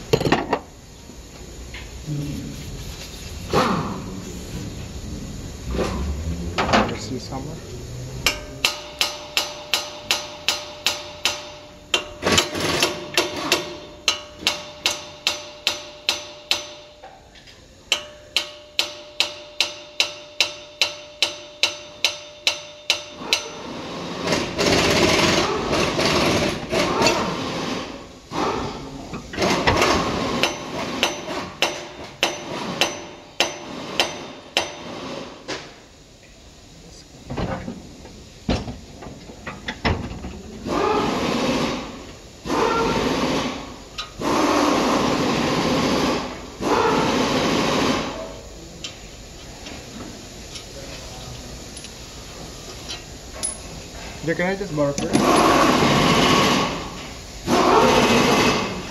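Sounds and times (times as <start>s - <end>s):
continuous noise: 0.0s - 58.9s.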